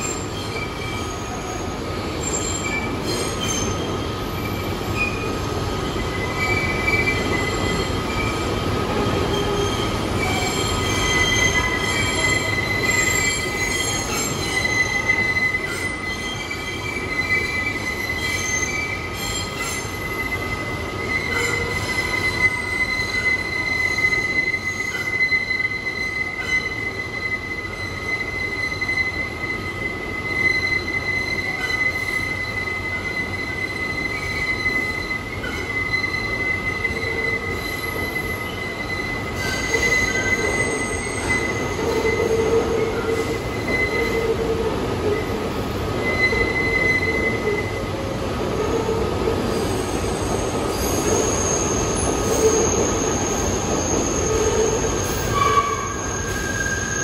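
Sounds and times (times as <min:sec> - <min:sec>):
train cars rumbling: 0:00.0 - 0:57.0
train wheels squealing: 0:00.0 - 0:57.0.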